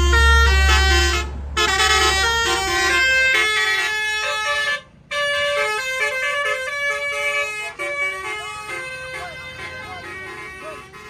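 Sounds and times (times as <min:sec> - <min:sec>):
multi-tone bus air horn melody: 0:00.0 - 0:11.0.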